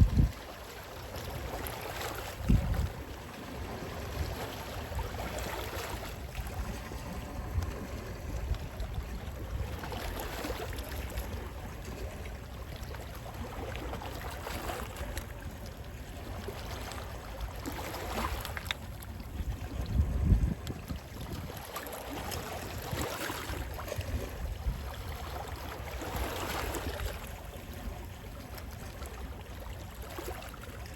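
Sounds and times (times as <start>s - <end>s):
calm sea waves washing: 0.0s - 30.9s
sea wind rumble: 0.0s - 30.9s.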